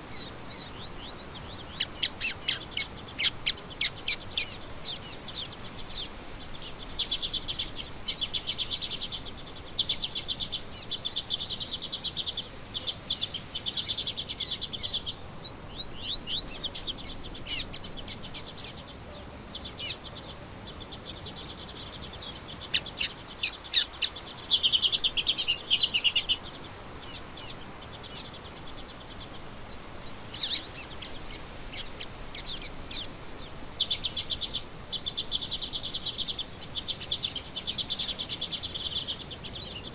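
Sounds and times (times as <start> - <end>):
songbirds trilling: 0.0 - 39.9
high bird chirps: 0.1 - 39.9.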